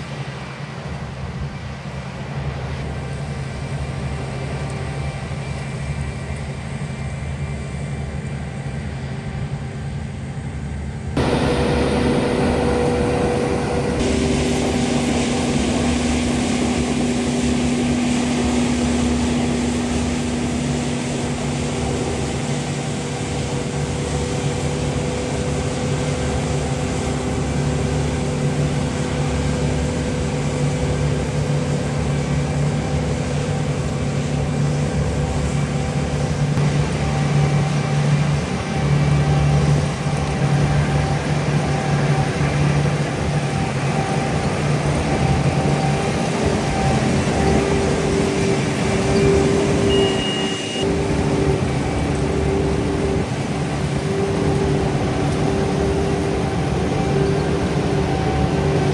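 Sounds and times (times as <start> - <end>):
farm machinery engine humming: 0.0 - 58.9.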